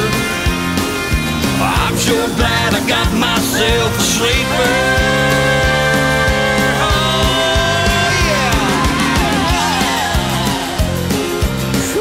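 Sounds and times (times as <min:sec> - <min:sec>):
country song with held note: 0:00.0 - 0:12.0
steady drum beat: 0:00.0 - 0:12.0.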